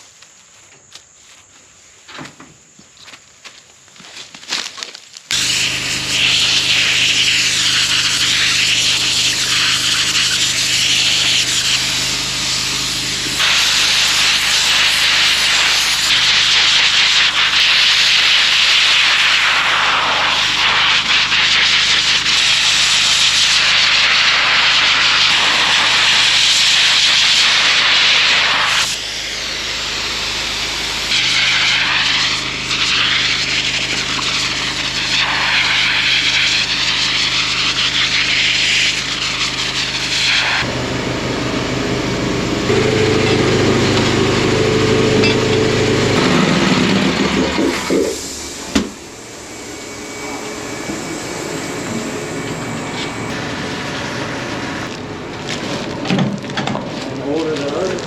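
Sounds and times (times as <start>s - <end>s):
loud rushing hiss: 5.3s - 54.9s
combine harvester engine drone: 5.3s - 58.0s.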